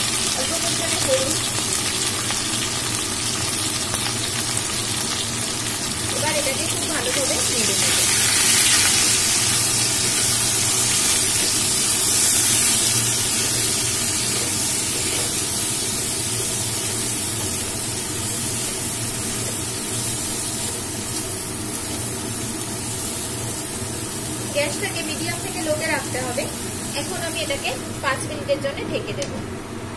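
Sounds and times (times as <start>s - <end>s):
vegetables sizzling in oil: 0.0s - 29.7s.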